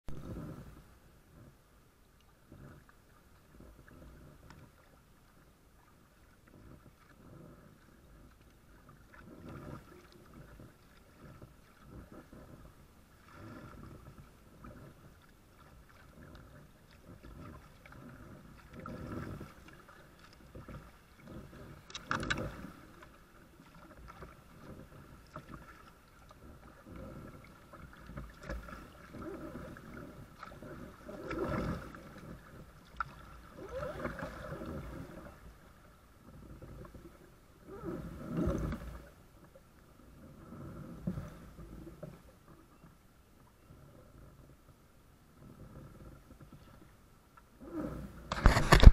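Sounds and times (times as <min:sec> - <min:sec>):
water splashing against kayak hull: 0:00.1 - 0:48.9.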